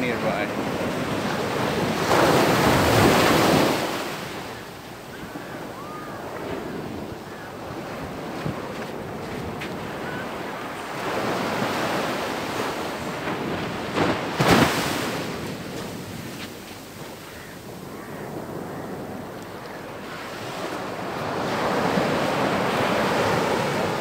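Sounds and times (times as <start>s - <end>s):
small waves washing on sand: 0.0s - 24.0s
wind on microphone: 0.0s - 24.0s.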